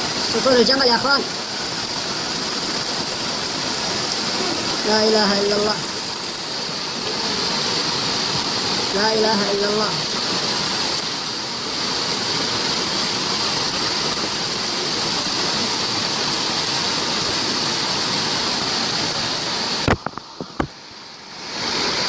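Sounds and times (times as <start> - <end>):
rushing noise with hiss: 0.0 - 22.0.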